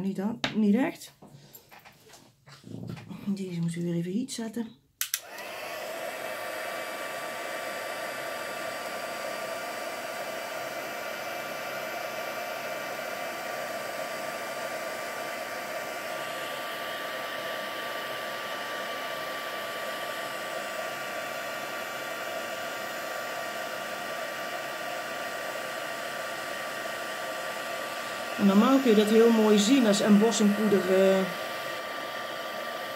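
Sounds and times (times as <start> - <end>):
heat gun fan whine: 5.0 - 32.9.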